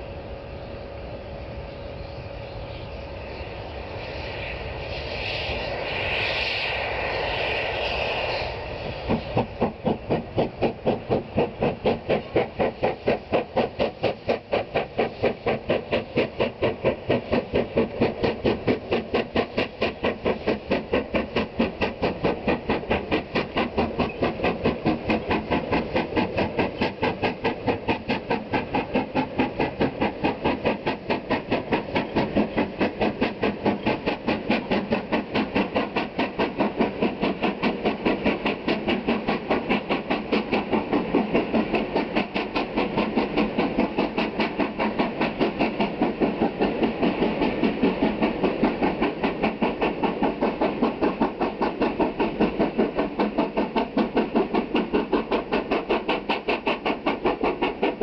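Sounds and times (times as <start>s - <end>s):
steam hissing: 0.0s - 58.0s
steam locomotive exhaust chuffs: 0.0s - 58.0s.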